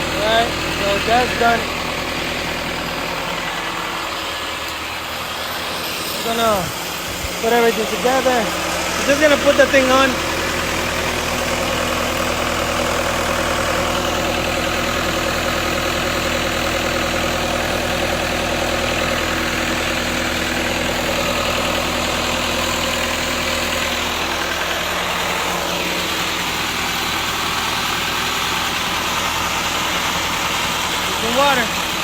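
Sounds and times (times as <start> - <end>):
welder engine idling: 0.0 - 32.0.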